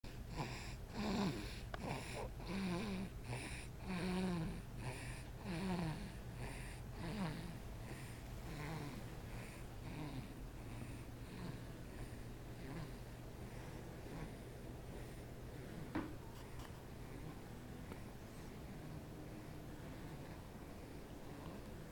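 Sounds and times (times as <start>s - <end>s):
baby snoring: 0.1s - 15.9s, 17.0s - 21.9s.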